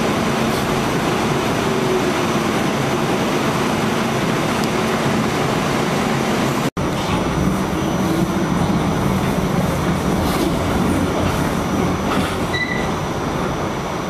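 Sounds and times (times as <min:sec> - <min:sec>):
subway car rumbling in tunnel: 0:00.0 - 0:14.0.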